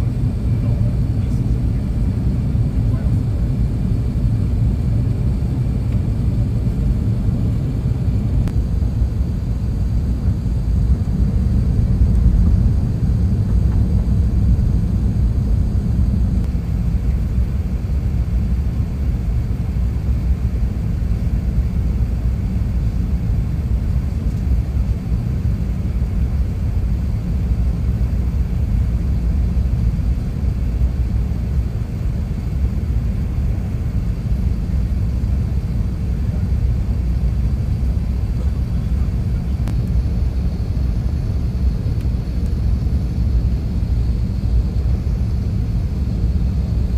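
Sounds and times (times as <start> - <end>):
airliner cabin engine and airflow rumble: 0.0 - 46.9.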